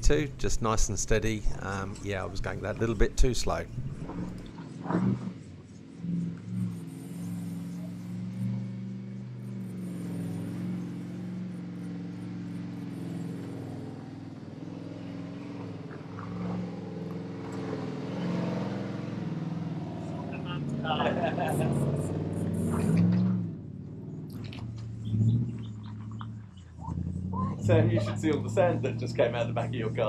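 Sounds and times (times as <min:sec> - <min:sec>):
car engine droning: 0:00.0 - 0:30.0.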